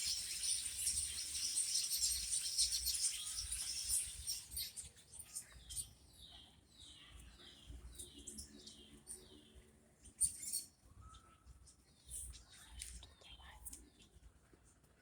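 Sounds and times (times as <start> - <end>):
songbirds calling: 0.0 - 14.1.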